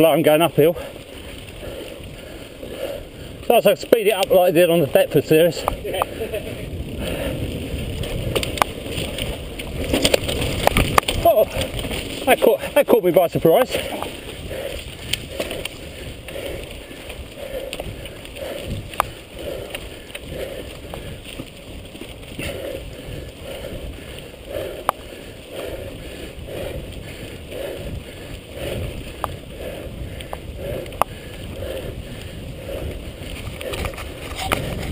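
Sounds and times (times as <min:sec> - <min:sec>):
bike tyres rumbling on dirt trail: 0:00.0 - 0:34.9
bike rattling clicks: 0:00.4 - 0:34.9
wind on microphone: 0:04.9 - 0:12.8, 0:13.4 - 0:34.9.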